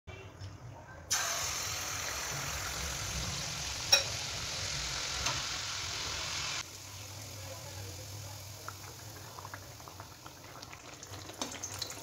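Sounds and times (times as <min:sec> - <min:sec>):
batter sizzling in hot oil: 0:01.1 - 0:12.0.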